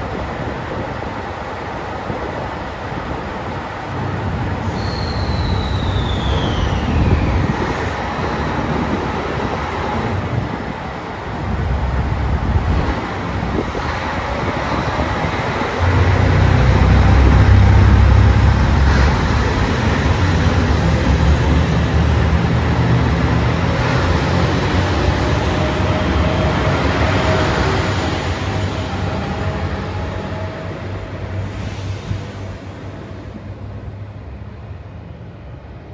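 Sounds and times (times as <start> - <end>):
diesel train engines under load: 0.0 - 35.9.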